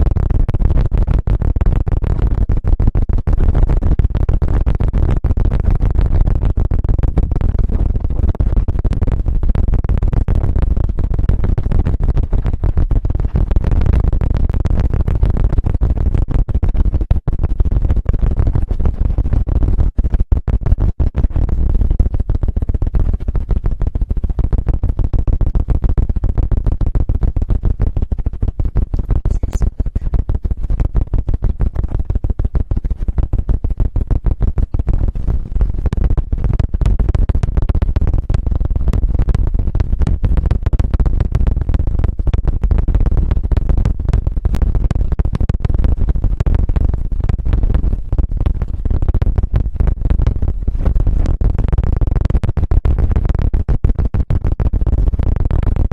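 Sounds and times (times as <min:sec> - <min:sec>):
microphone rubbed and flapped: 0:00.0 - 0:55.9.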